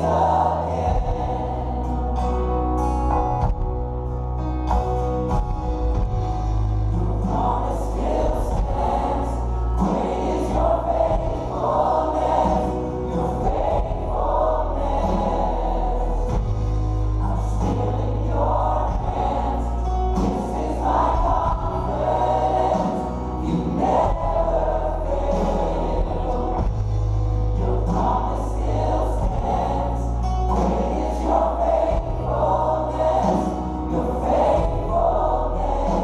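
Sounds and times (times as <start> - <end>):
many voices singing together: 0.0 - 2.7, 6.7 - 36.0
band playing bass and keyboard: 0.0 - 36.0.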